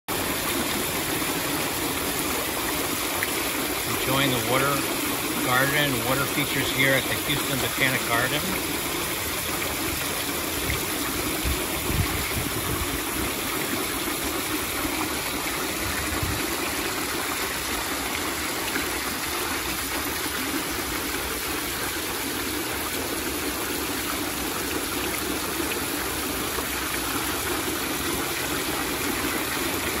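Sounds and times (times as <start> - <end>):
fountain water splashing into pond: 0.1 - 30.0.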